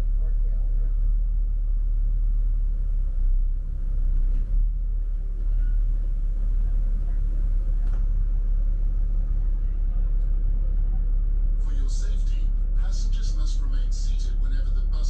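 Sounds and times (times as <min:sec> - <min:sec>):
bus engine rumble: 0:00.0 - 0:15.0
road traffic: 0:00.0 - 0:15.0.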